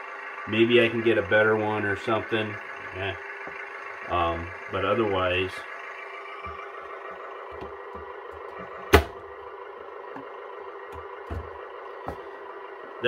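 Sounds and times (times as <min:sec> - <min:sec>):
engine idle through tiny speaker: 0:00.0 - 0:13.0.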